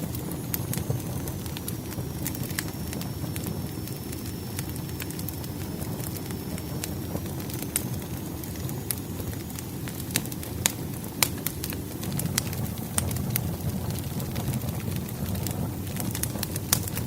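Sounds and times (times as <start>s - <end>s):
firewood crackling and popping: 0.0s - 17.0s
low rumble of flame: 0.0s - 17.0s.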